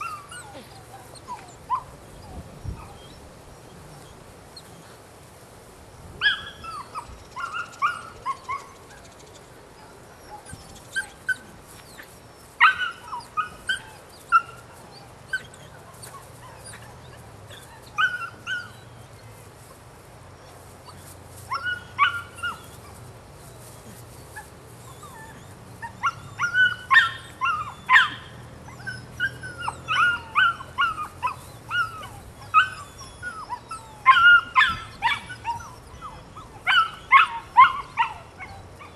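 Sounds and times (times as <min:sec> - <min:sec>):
puppy yipping and barking: 0:00.0 - 0:03.3, 0:06.2 - 0:09.0, 0:09.8 - 0:19.0, 0:20.4 - 0:23.0, 0:24.1 - 0:38.9.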